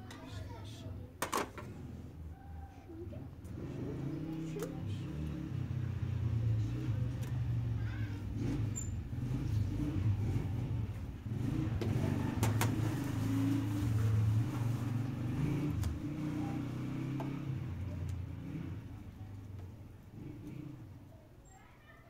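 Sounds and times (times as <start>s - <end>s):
engine humming: 3.4s - 21.1s.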